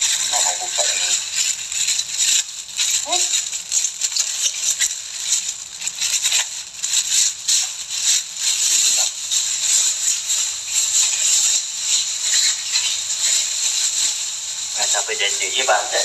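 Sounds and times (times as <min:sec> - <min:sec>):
dry rustling and crackling: 0:00.0 - 0:16.0.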